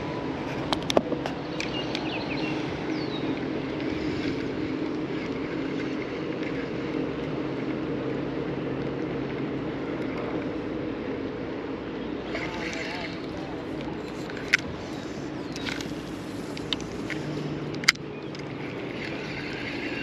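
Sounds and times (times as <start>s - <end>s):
kayak moving on river: 0.0s - 20.0s
low hum: 0.0s - 20.0s.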